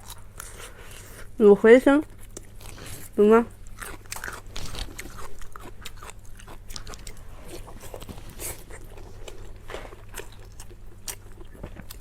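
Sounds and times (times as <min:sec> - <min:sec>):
person chewing food: 0:00.0 - 0:01.4, 0:02.1 - 0:12.0.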